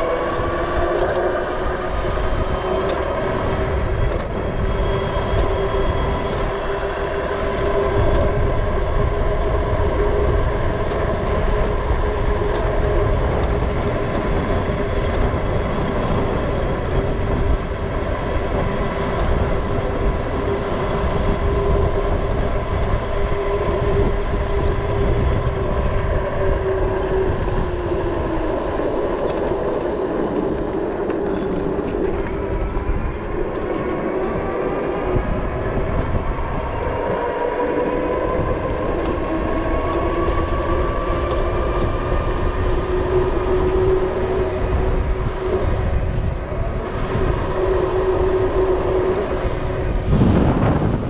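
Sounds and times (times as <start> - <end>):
electric motor whine: 0.0 - 51.0
wind rumble on microphone: 0.0 - 51.0.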